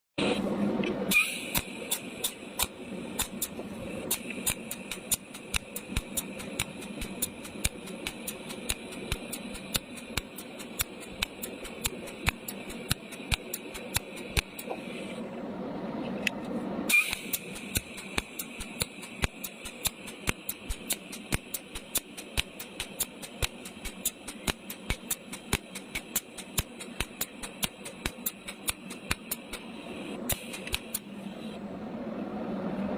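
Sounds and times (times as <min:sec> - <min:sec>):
machine humming: 0:00.2 - 0:32.9
welding machine clicks: 0:01.1 - 0:14.8, 0:16.9 - 0:31.1.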